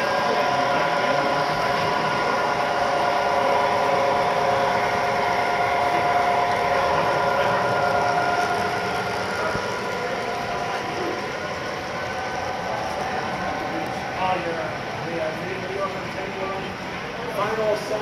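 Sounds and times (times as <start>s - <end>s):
model train motor hum: 0.0s - 18.0s.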